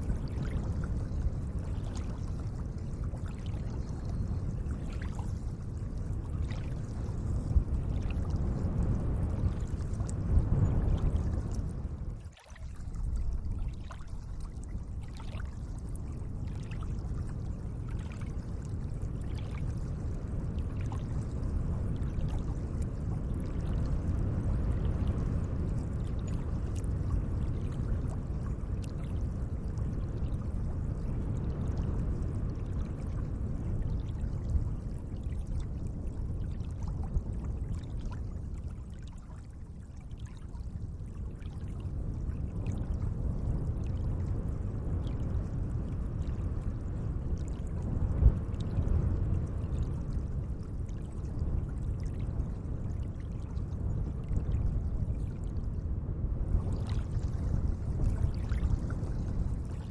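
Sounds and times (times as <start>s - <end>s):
lake water trickling: 0.0s - 55.8s, 56.5s - 59.9s.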